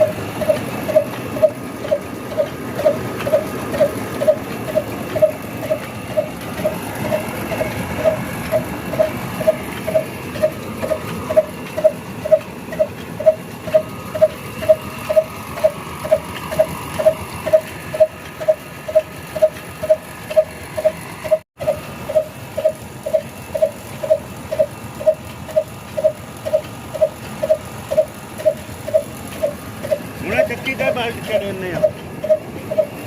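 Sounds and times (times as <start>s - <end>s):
diesel engine thumping: 0.0s - 33.0s.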